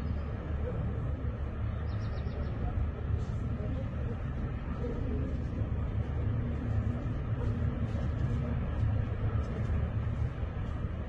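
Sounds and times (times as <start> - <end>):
low rumble of outdoor background noise: 0.0 - 11.0.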